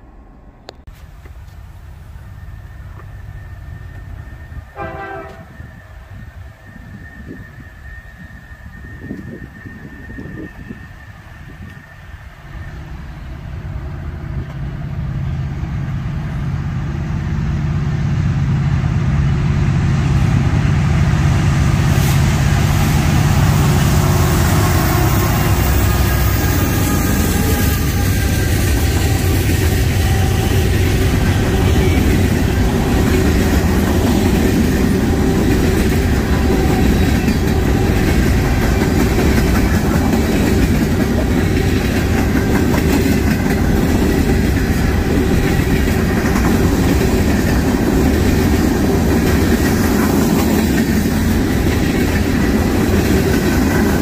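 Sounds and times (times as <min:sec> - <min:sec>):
diesel locomotive engine hum: 0:00.0 - 0:54.0.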